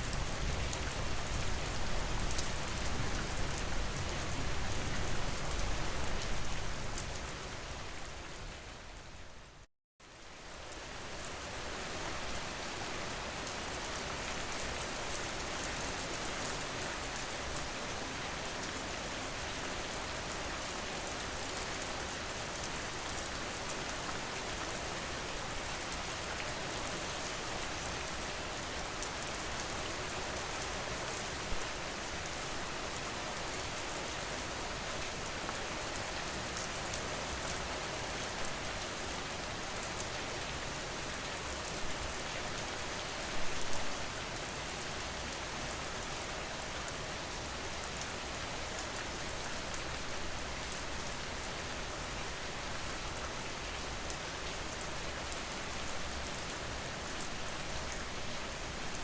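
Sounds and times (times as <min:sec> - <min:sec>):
rain falling: 0:10.1 - 0:59.0.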